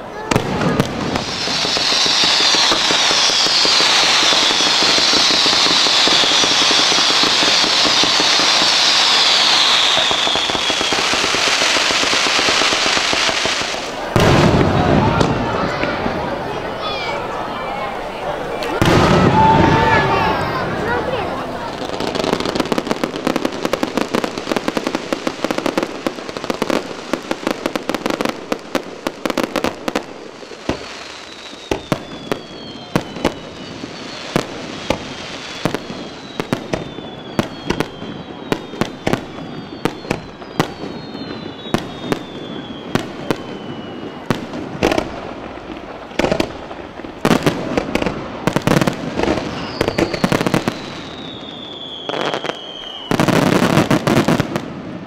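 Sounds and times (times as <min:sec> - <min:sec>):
fireworks crackling and bangs: 0:00.0 - 0:55.0
whistling fireworks: 0:00.0 - 0:55.0.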